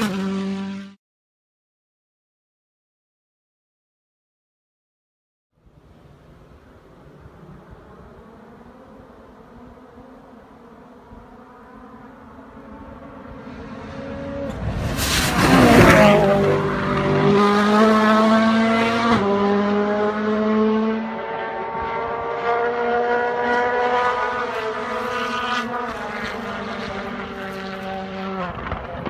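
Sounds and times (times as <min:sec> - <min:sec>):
rally car engine at full throttle: 0:00.0 - 0:01.0, 0:05.8 - 0:29.0.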